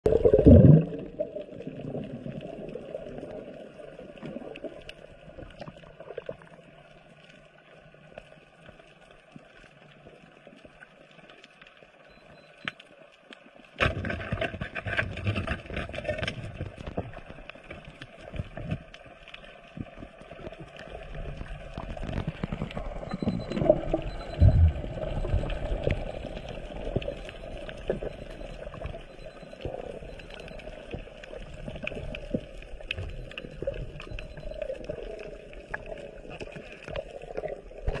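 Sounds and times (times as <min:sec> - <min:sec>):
underwater sloshing and bubbling: 0:00.0 - 0:38.0.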